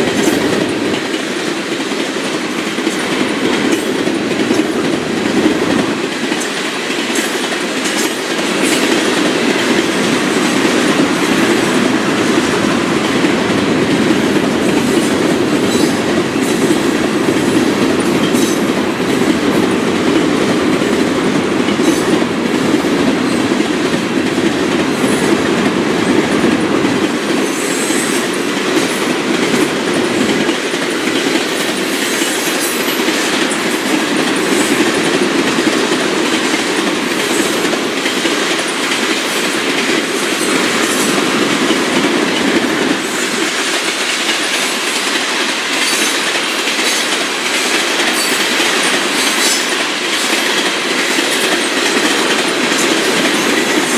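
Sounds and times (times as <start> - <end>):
freight train rolling past: 0.0 - 53.9
wheels clicking over rail joints: 0.0 - 53.9.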